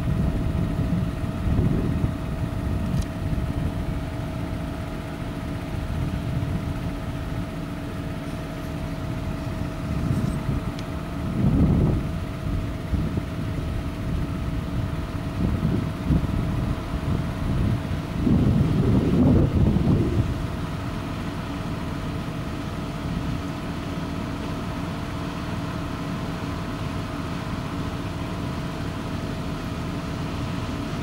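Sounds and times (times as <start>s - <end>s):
combine harvester engine drone: 0.0s - 31.0s
constant machine whine: 0.0s - 31.0s.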